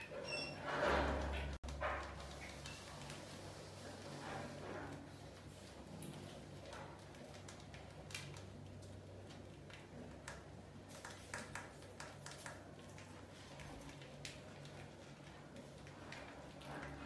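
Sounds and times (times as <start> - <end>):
rats scurrying on tiled floor: 0.3 - 17.0.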